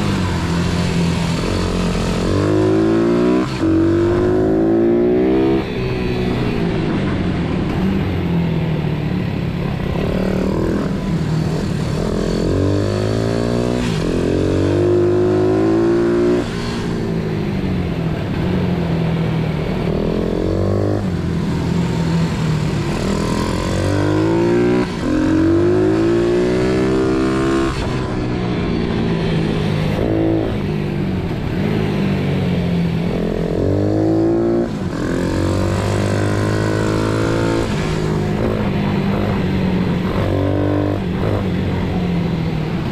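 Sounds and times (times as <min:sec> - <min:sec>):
motorbike engine revving: 0:00.0 - 0:08.4, 0:09.7 - 0:42.9.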